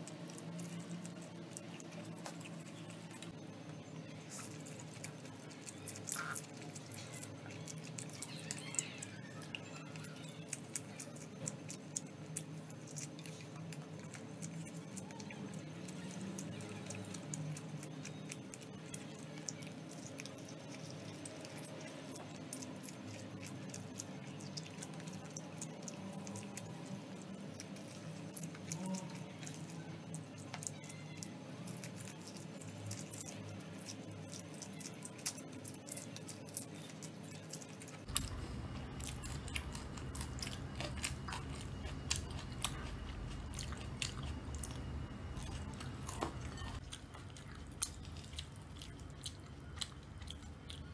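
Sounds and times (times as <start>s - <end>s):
chewing and slurping noodles: 4.1s - 50.9s.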